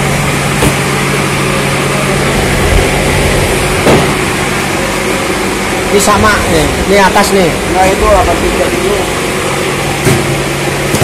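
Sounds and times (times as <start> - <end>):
machine hum and drone: 0.0 - 11.0.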